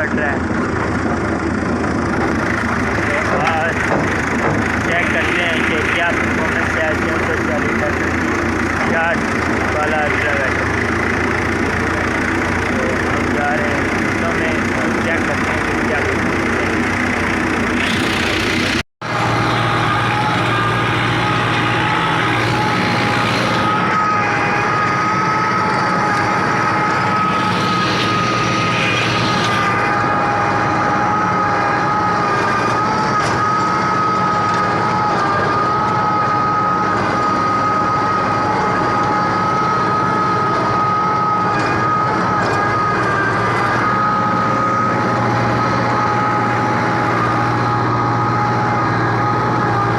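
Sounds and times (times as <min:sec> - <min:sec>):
rotavator high whine: 0:00.0 - 0:49.9
tractor diesel engine running: 0:00.0 - 0:49.9.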